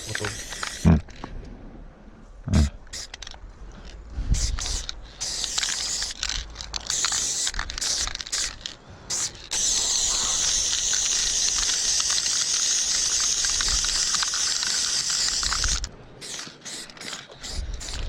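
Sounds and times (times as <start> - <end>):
aerosol spray can hissing: 0.0 - 0.9, 2.9 - 3.3, 4.4 - 18.0.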